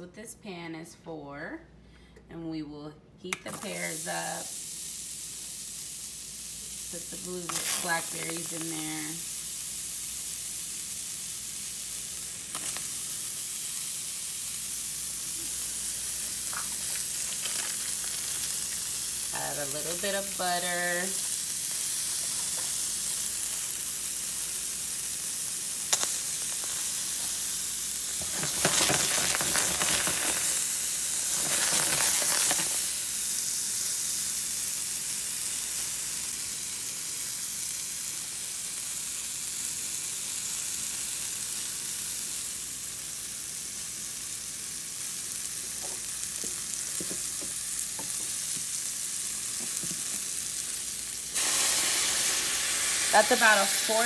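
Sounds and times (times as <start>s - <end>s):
fruit sizzling in a pan: 3.2s - 54.0s.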